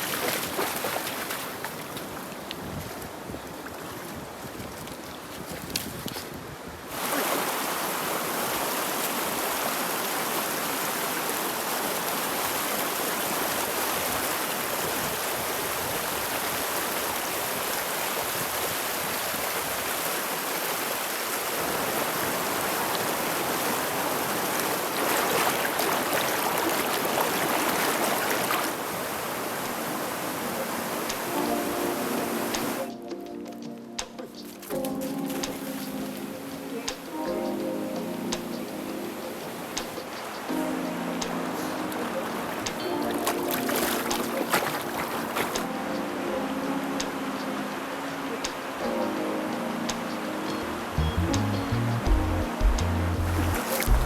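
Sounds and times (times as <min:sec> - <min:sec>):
river water rushing: 0:00.0 - 0:05.0, 0:06.9 - 0:32.9, 0:34.7 - 0:54.0.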